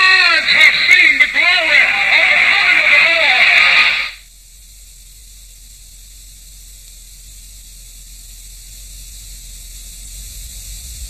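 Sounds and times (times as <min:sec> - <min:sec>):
recording hiss: 0:00.0 - 0:11.0.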